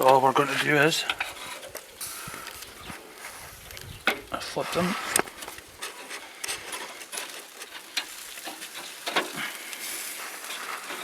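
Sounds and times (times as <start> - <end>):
low sizzle: 0.0 - 11.0.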